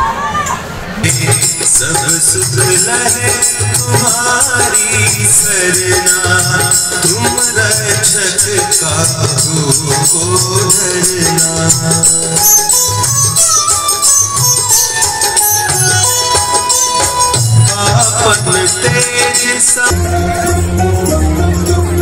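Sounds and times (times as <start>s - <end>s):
jingling percussion: 1.0s - 22.0s
person singing wavering melody: 1.1s - 22.0s.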